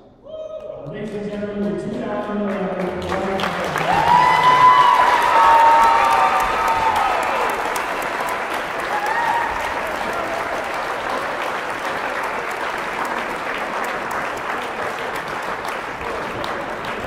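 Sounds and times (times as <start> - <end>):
crowd applauding: 1.1 - 17.0.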